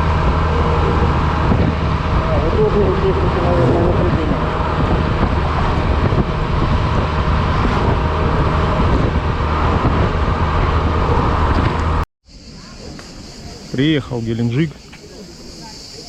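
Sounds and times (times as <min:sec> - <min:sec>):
scooter engine hum: 0:00.0 - 0:14.0
road noise rushing: 0:00.0 - 0:16.0.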